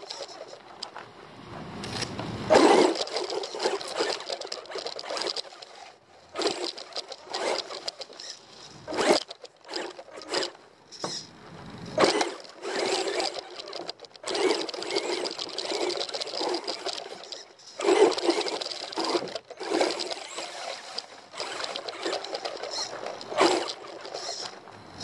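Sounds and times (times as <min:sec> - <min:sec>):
rc car motor whirring: 0:00.0 - 0:01.0, 0:01.8 - 0:25.0
tyres scrabbling over dirt: 0:00.0 - 0:11.2, 0:11.9 - 0:25.0.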